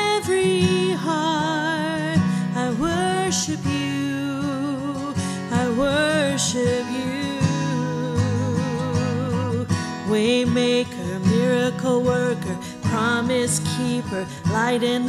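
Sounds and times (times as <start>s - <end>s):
strummed acoustic guitar: 0.0s - 15.0s
woman singing: 0.0s - 15.0s.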